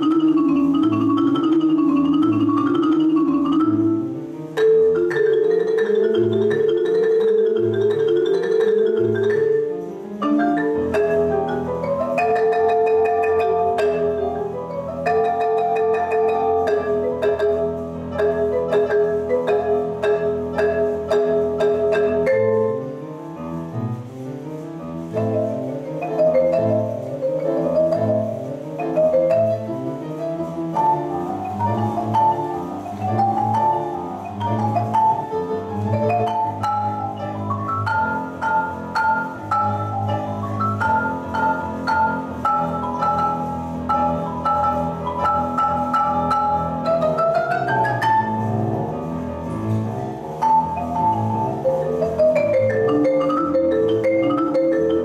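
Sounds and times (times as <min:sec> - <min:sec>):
marimba played with mallets: 0:00.0 - 0:55.0
piano accompaniment: 0:00.0 - 0:55.0.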